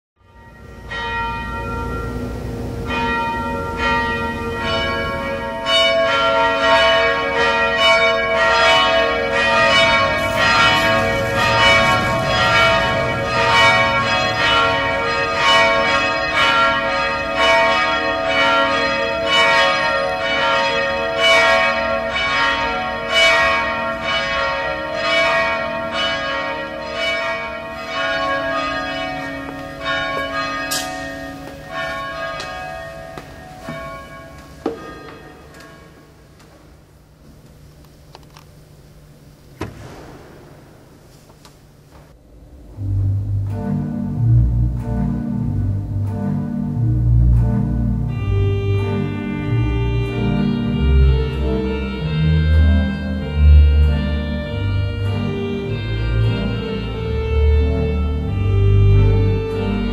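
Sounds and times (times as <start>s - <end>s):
church bells ringing a peal: 0.2s - 36.4s, 42.7s - 59.9s.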